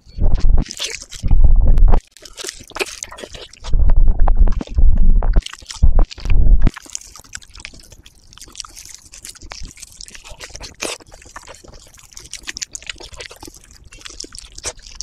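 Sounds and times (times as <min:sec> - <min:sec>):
biting and chewing: 0:00.1 - 0:15.0.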